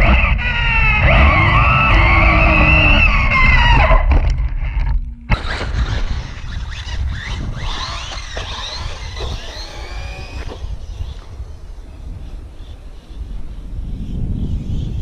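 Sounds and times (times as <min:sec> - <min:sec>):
electric motor whining: 0:00.0 - 0:03.8, 0:05.4 - 0:14.2
wind rumble on microphone: 0:00.0 - 0:15.0.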